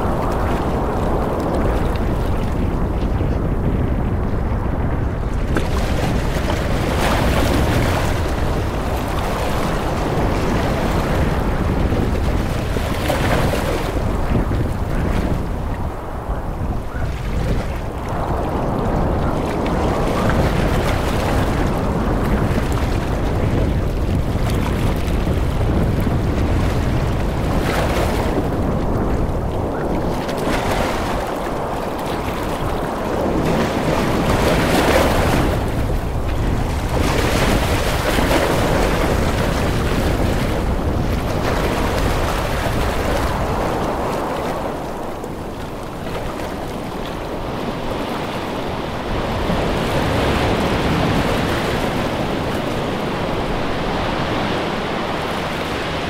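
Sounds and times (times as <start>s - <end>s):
ocean surf breaking: 0.0s - 56.0s
wind rumbling on microphone: 0.0s - 56.0s.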